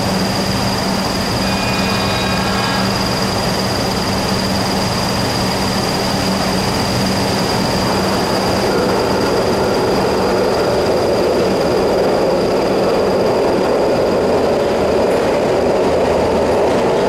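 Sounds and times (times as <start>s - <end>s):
train rumble in tunnel: 0.0s - 17.0s.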